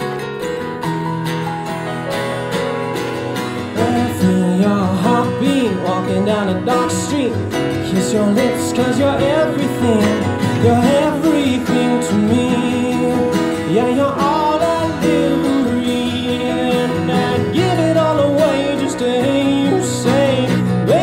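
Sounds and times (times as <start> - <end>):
keyboard: 0.0 - 21.0
strummed acoustic guitar: 0.0 - 21.0
man singing: 3.7 - 21.0.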